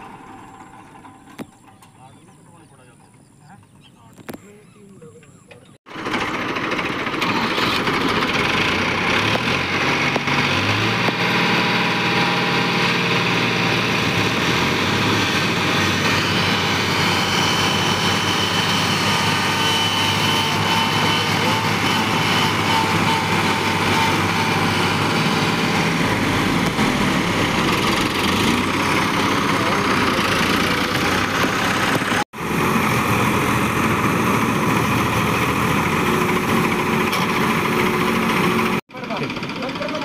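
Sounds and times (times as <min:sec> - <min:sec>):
tractor diesel engines droning: 0:00.0 - 0:40.0.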